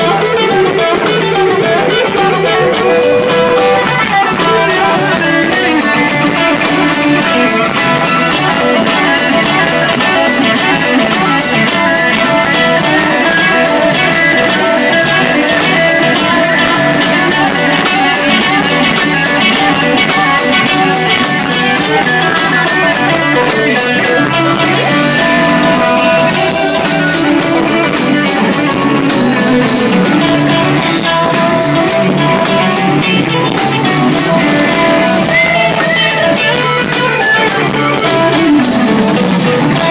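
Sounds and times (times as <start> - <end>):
drum kit with cymbal hits: 0.0 - 39.9
electric guitars: 0.0 - 39.9.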